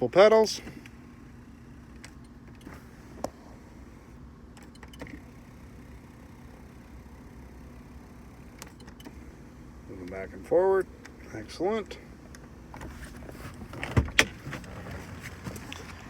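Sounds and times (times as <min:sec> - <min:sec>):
faint car cabin hum: 0:00.0 - 0:16.0.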